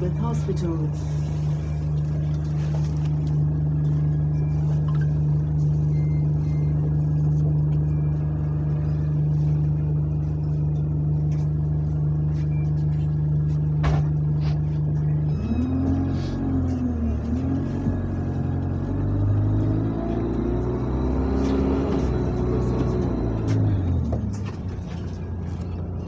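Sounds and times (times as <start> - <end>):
bus diesel engine drone: 0.0 - 26.0
wavering engine whine: 0.0 - 26.0.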